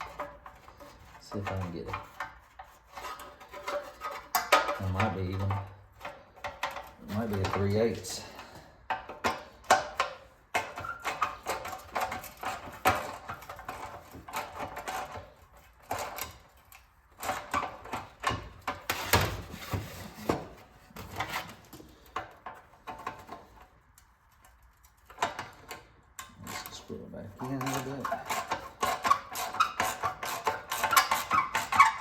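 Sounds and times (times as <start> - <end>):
hand tools clanking on metal: 0.0 - 23.7, 24.9 - 32.0.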